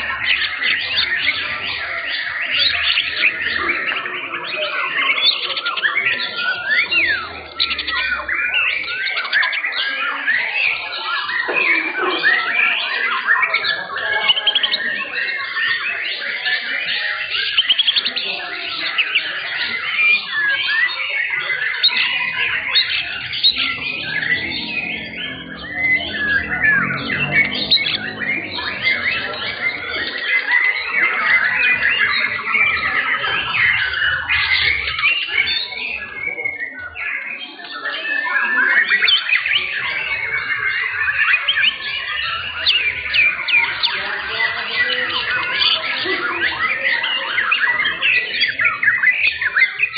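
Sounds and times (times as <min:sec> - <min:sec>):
birds singing in dense chorus: 0:00.0 - 0:49.9.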